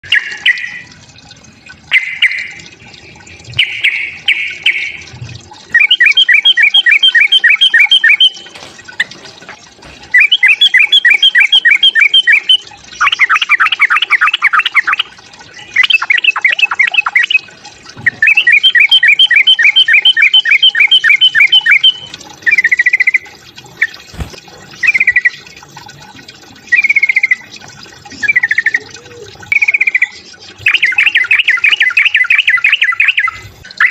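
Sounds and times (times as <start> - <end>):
bird song with chattering notes: 0.0 - 9.2, 9.8 - 33.9.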